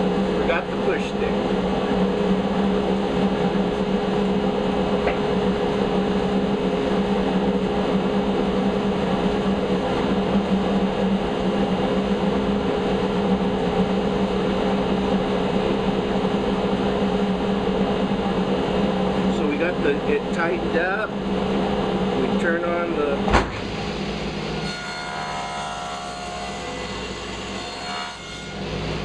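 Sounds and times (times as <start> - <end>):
dust collector humming: 0.0 - 29.0.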